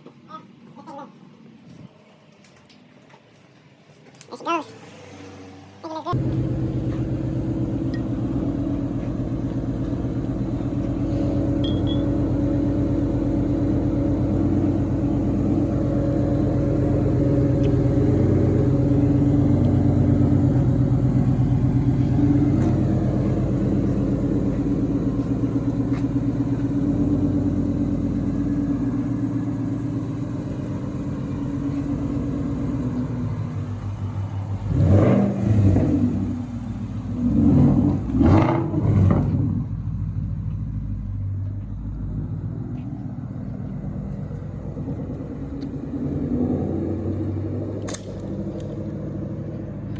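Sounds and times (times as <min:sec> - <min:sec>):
car engine running and revving: 0:05.0 - 0:49.9.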